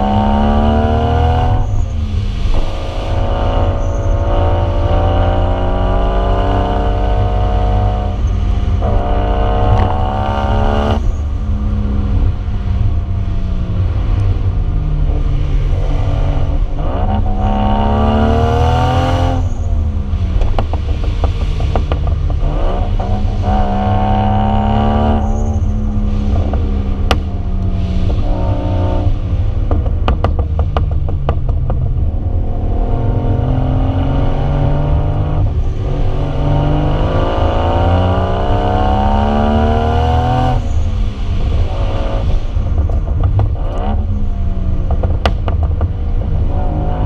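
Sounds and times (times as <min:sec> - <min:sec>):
car engine accelerating and shifting: 0:00.0 - 0:47.0.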